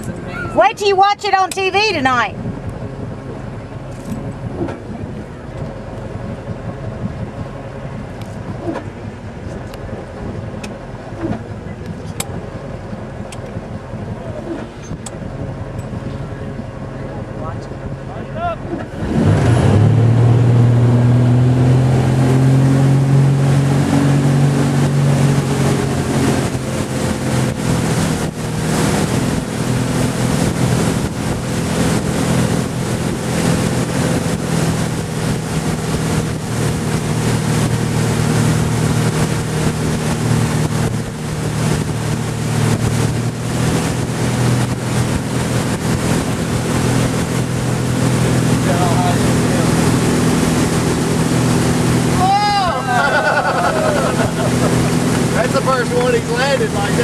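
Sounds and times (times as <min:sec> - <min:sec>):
wind buffeting microphone: 0:00.0 - 0:53.0
motorboat engine: 0:00.0 - 0:57.0
water rushing: 0:00.0 - 0:57.0.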